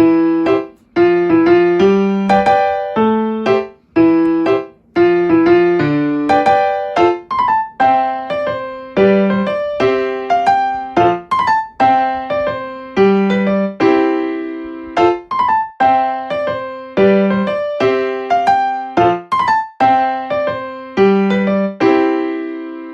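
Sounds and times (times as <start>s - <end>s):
keyboard playing light melody: 0.0s - 22.9s.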